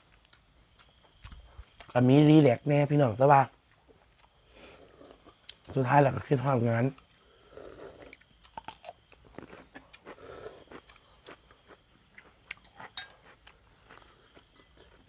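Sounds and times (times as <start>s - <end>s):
person chewing and crunching food: 0.0s - 2.0s, 3.5s - 5.8s, 6.9s - 15.0s.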